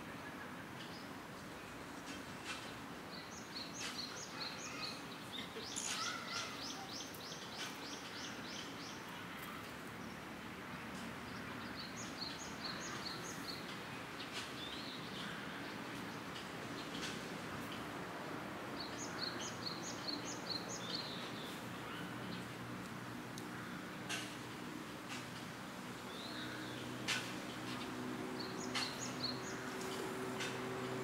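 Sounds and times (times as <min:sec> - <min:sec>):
outdoor background noise: 0:00.0 - 0:31.0
small birds chirping: 0:00.8 - 0:10.3, 0:10.9 - 0:17.9, 0:18.7 - 0:22.7, 0:26.0 - 0:31.0.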